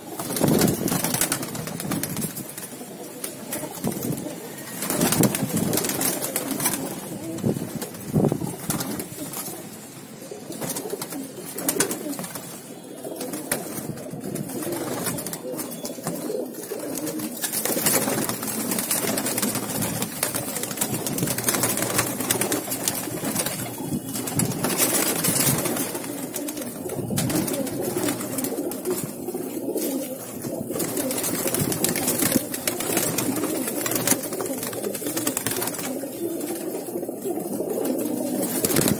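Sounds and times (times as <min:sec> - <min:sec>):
birds scuffling: 0:00.0 - 0:38.9
pigeons cooing: 0:00.0 - 0:38.9
wing flaps: 0:00.1 - 0:02.6, 0:03.2 - 0:09.5, 0:13.2 - 0:36.0, 0:37.8 - 0:38.9.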